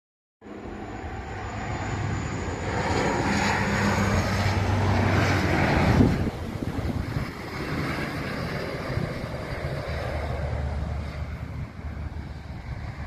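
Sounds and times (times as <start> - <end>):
turboprop airliner flying low: 0.4 - 13.0.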